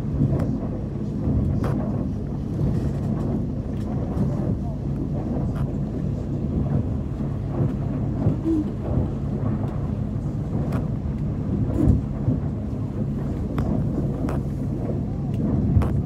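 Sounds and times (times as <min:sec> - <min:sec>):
motorboat engine hum: 0:00.0 - 0:16.0
rush of wake and spray: 0:00.0 - 0:16.0
water slapping against hull: 0:00.0 - 0:16.0
wind buffeting microphone: 0:00.0 - 0:16.0.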